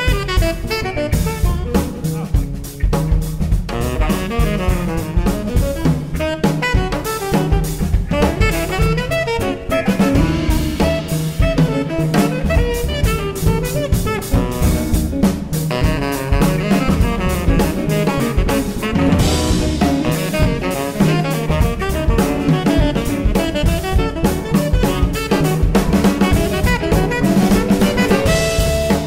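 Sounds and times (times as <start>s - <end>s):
drum kit: 0.0s - 29.0s
saxophone and brass: 0.0s - 29.0s.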